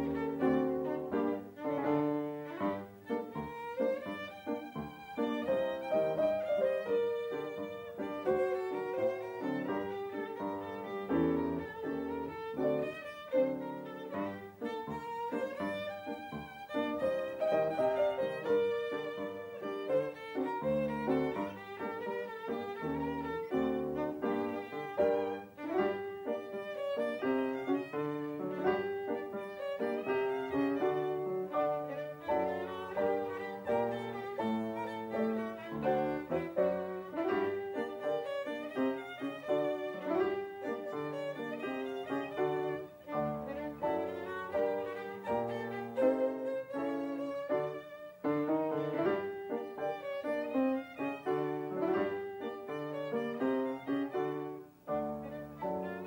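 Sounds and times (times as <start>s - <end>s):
violin playing quick melody: 0.0s - 56.0s.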